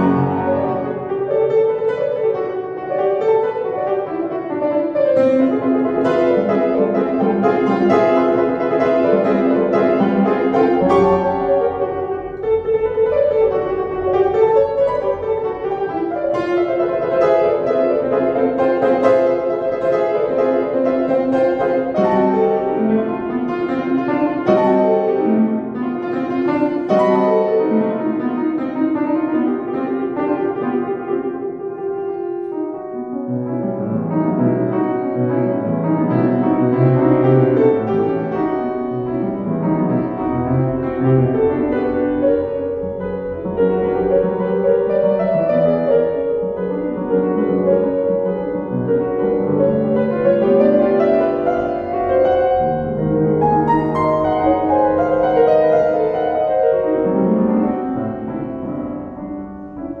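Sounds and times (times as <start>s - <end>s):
solo piano playing: 0.0s - 60.0s.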